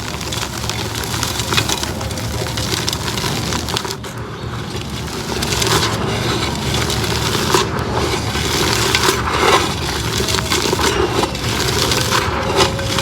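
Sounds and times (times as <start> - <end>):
concrete pot crunching: 0.0 - 13.0
sharp cracks of concrete: 0.0 - 13.0.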